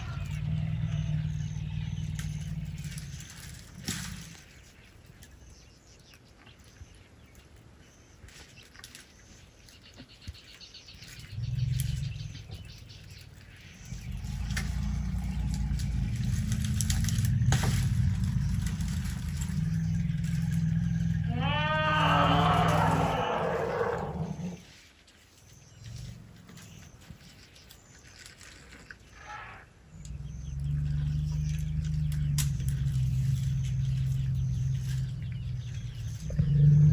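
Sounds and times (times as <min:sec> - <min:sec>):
elephants low rumbling: 0:00.0 - 0:05.9, 0:10.8 - 0:24.8, 0:25.4 - 0:36.9
faint bird chirps: 0:00.0 - 0:36.9.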